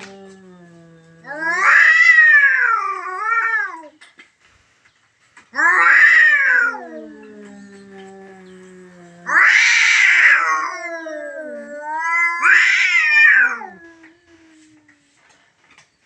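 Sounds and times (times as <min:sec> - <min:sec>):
cat yowling: 0:00.0 - 0:03.9, 0:05.6 - 0:15.1.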